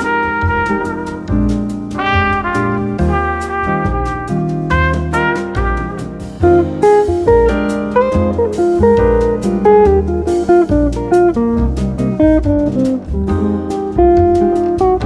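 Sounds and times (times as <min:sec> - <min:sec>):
instrumental music plucked notes: 0:00.0 - 0:15.0
steady beat: 0:00.0 - 0:15.0.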